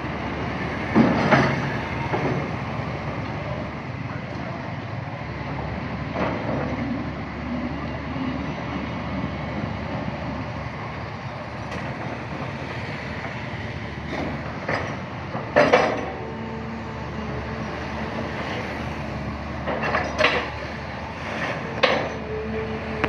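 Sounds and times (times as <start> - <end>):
excavator running: 0.0 - 23.0.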